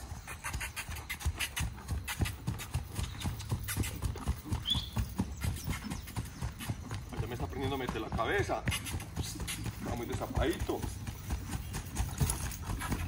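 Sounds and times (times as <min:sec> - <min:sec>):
horse hooves on grass: 0:00.0 - 0:13.0.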